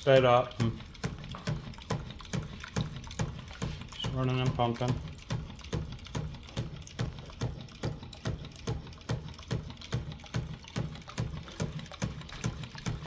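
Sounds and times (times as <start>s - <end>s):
pumping engine knocking: 0.0s - 13.0s
water splashing into barrel: 0.0s - 13.0s.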